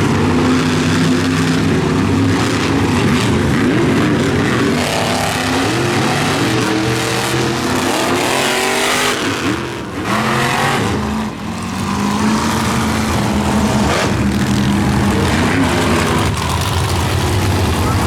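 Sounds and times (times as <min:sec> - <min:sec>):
truck engines revving: 0:00.0 - 0:18.0.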